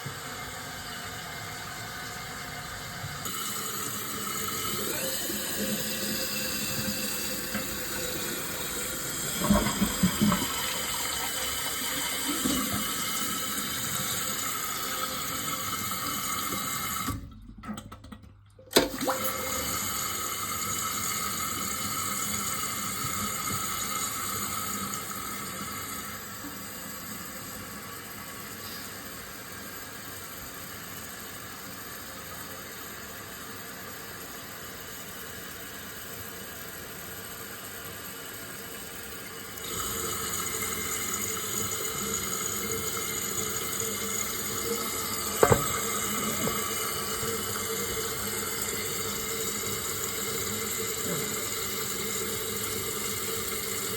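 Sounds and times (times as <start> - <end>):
toilet tank refilling: 0.0 - 53.9.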